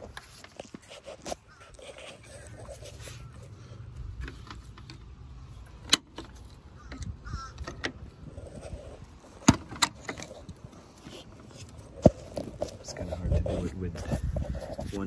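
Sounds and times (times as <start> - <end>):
low rumble of handling: 0.0 - 15.0.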